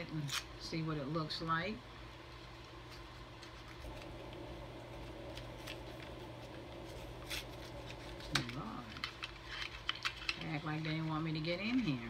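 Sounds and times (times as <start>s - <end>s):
steady low hum: 0.0s - 12.0s
packaging clicks and crinkles: 2.3s - 12.0s.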